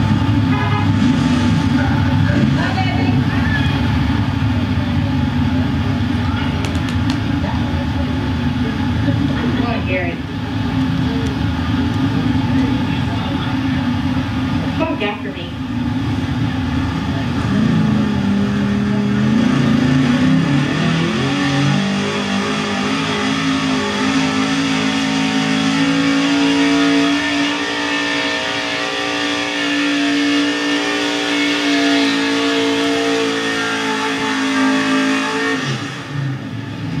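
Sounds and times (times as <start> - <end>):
truck engine revving hard: 0.0 - 37.0.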